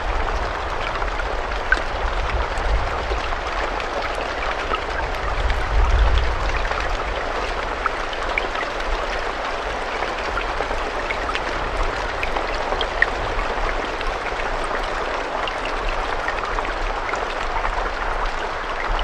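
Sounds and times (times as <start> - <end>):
raindrops ticking and pattering: 0.0 - 19.0
steady rain hiss: 0.0 - 19.0.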